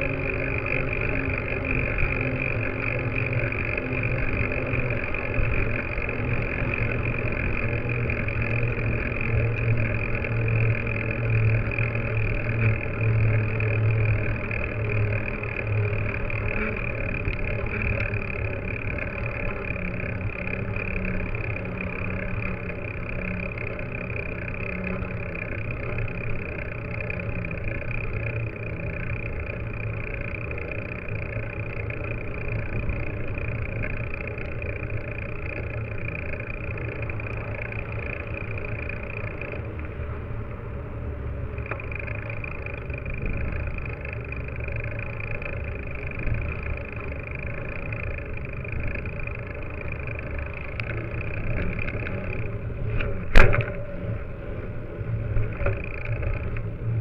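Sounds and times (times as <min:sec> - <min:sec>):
bike tyre rolling on pavement: 0:00.0 - 0:57.0
road traffic passing: 0:00.0 - 0:57.0.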